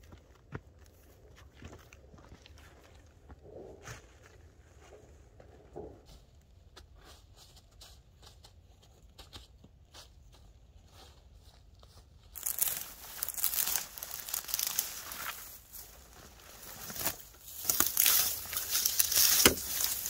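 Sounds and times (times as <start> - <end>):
dry brush and grass crackling: 0.0 - 20.0.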